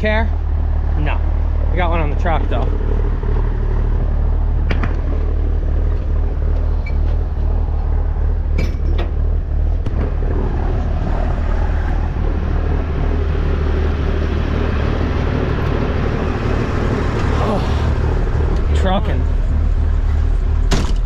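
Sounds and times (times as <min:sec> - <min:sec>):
truck engine drone from cab: 0:00.0 - 0:21.0.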